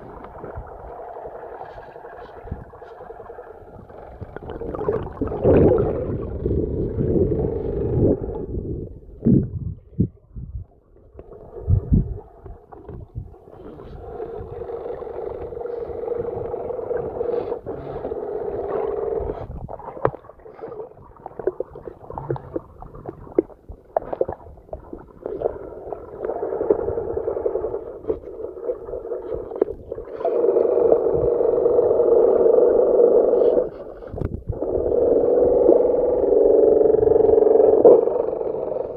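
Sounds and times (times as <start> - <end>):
muffled underwater hum: 0.0 - 38.9.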